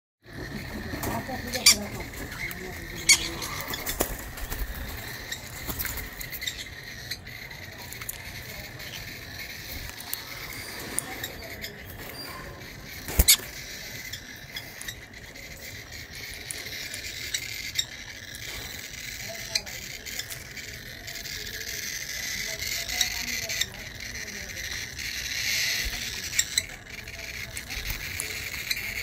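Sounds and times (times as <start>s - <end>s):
beaks pecking at seeds: 0.2s - 29.0s.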